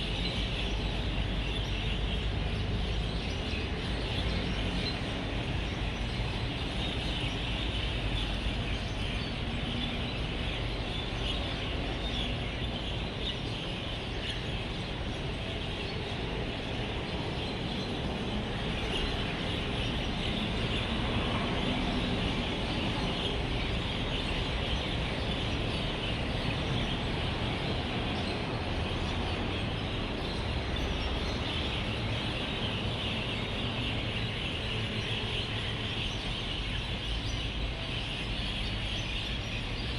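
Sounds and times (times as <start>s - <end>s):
flock of birds chirping: 0.0s - 39.9s
road traffic rumble: 0.0s - 39.9s.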